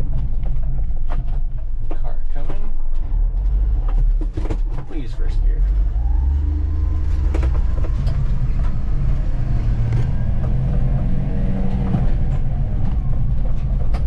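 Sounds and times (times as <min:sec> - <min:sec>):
road noise: 0:00.0 - 0:14.0
small truck engine pulling: 0:00.0 - 0:14.0.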